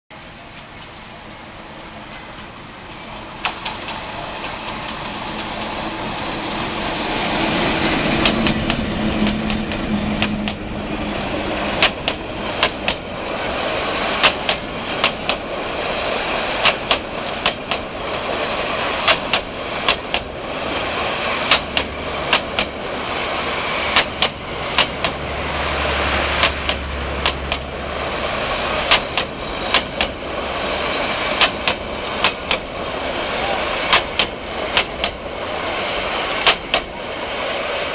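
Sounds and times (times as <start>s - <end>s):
diesel locomotive engine hum: 0.1s - 37.9s
wheels clacking over rail joints: 0.2s - 37.9s.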